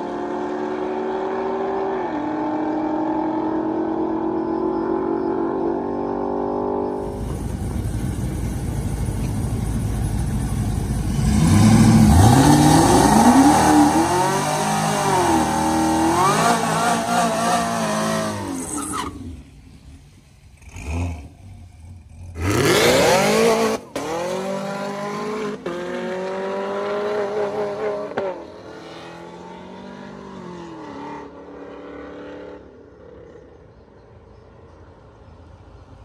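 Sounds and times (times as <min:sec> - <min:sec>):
drag racing cars accelerating: 0:00.0 - 0:33.5.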